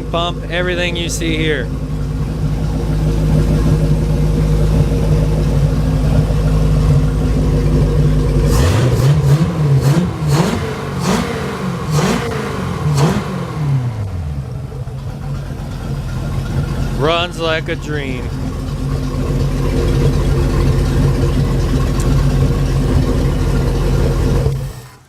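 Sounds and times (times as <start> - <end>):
boat engine idling and revving: 0.0 - 25.0.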